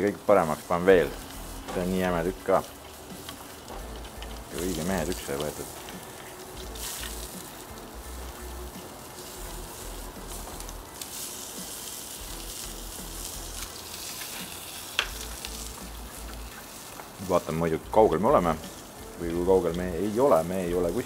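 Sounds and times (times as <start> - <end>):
steak sizzling on grill: 0.0 - 21.0.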